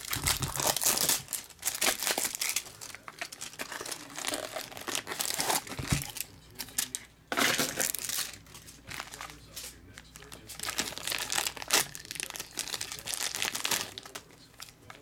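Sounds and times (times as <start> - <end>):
plastic wrappers crinkling and tearing: 0.0 - 15.0.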